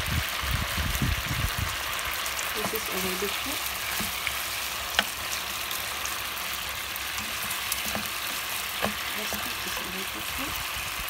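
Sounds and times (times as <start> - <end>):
meat sizzling in pan: 0.0 - 11.0.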